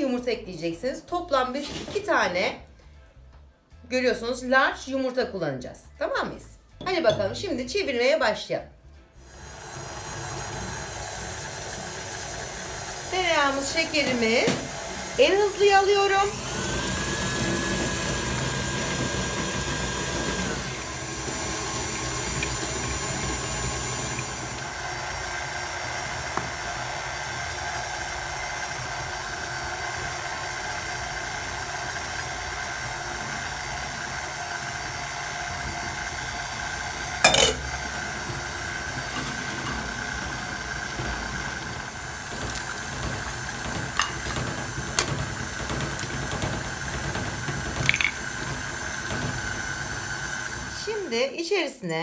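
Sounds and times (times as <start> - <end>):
stand mixer motor whine: 9.2 - 51.1.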